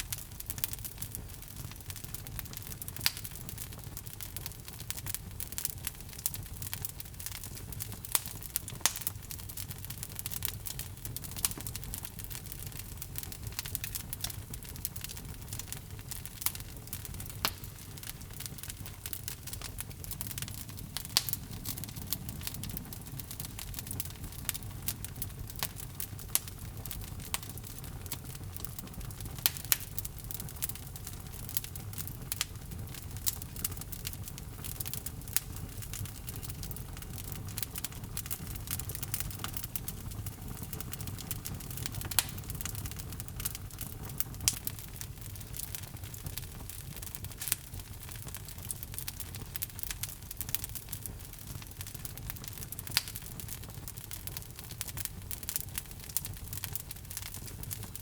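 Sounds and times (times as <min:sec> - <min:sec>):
burning wood snapping and popping: 0:00.0 - 0:58.0
flames rumbling: 0:00.0 - 0:58.0.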